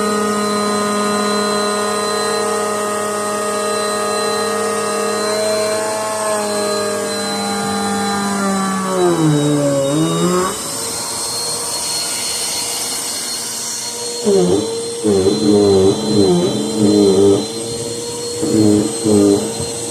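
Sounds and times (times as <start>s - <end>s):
vacuum cleaner whine: 0.0s - 19.9s.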